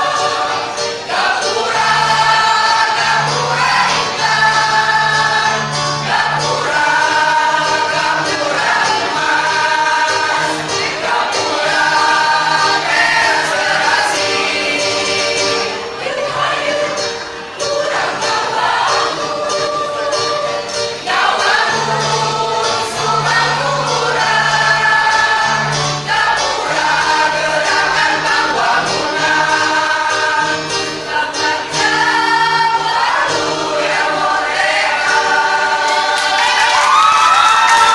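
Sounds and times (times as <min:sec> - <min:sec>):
choir singing held notes: 0:00.0 - 0:37.9.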